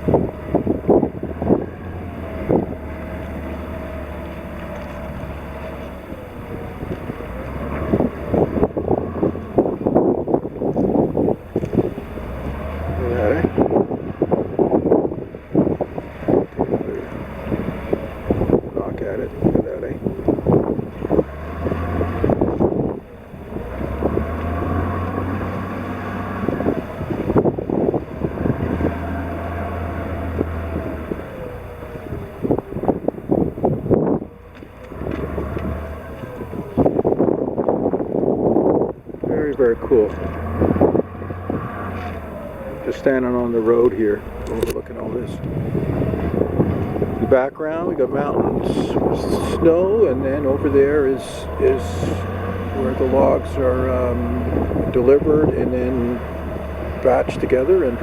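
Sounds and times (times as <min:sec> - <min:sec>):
boat engine running: 0:00.0 - 0:58.0
wind buffeting microphone: 0:00.0 - 0:58.0.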